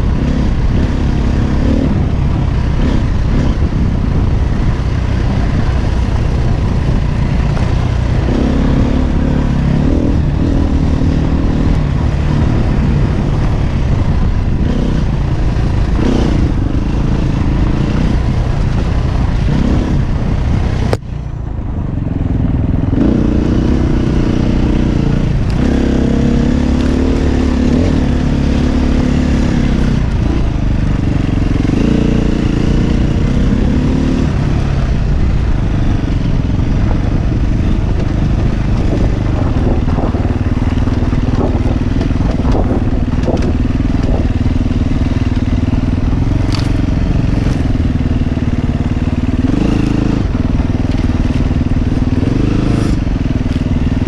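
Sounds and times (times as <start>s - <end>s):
dirt bike engine revving: 0.0s - 21.0s, 22.8s - 54.0s.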